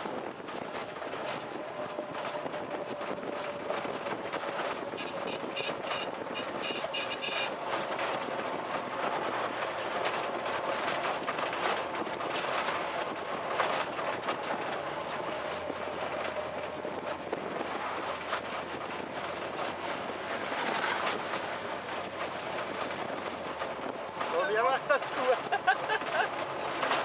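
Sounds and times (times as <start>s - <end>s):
engine running: 0.0s - 27.0s
metal body rattling: 0.0s - 27.0s
truck passing: 0.0s - 27.0s.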